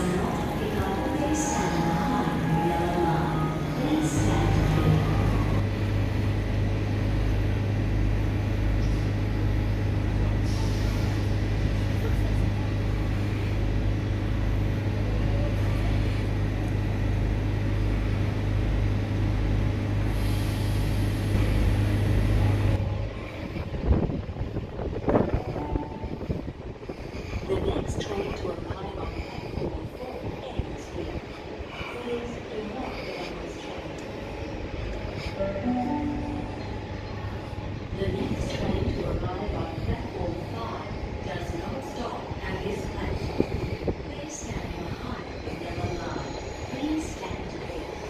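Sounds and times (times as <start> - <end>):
diesel railcar engine drone: 0.0 - 48.0.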